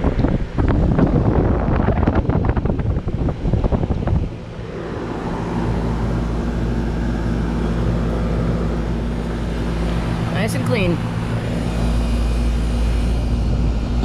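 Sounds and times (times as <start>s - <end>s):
air conditioner unit humming: 0.0s - 14.0s
wind buffeting microphone: 0.0s - 14.0s.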